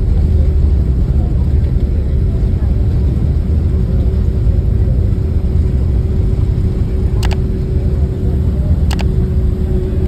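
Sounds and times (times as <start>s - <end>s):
aircraft cabin low rumble: 0.0s - 10.0s.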